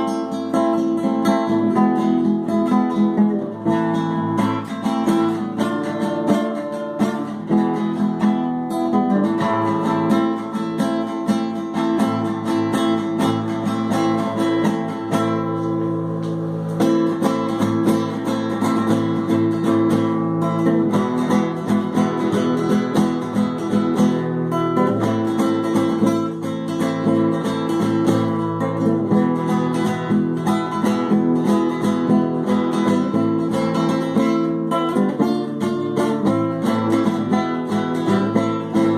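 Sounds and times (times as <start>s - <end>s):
acoustic guitar music: 0.0s - 38.9s.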